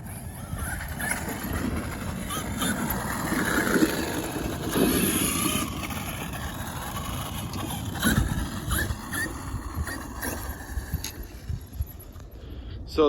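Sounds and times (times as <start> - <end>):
electric toy truck motor whirring: 0.0 - 12.4.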